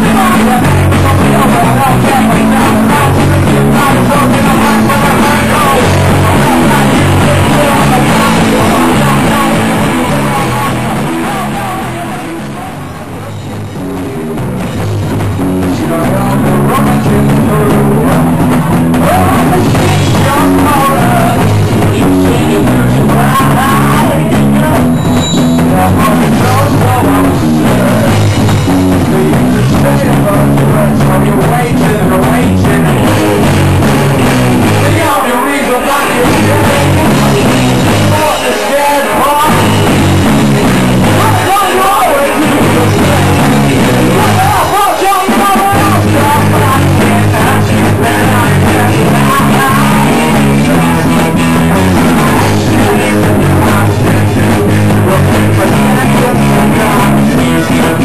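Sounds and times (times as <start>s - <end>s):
bass guitar: 0.0s - 58.0s
drum kit: 0.0s - 58.0s
electric guitars: 0.0s - 58.0s
man singing lead vocal: 0.0s - 58.0s.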